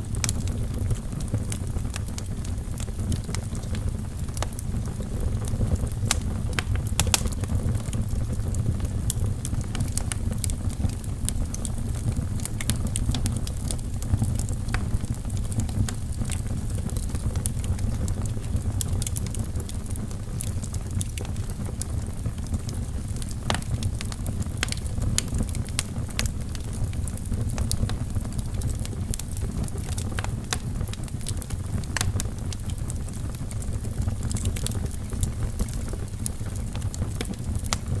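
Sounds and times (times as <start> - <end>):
burning logs crackling and popping: 0.0 - 38.0
fire flames rumbling: 0.0 - 38.0.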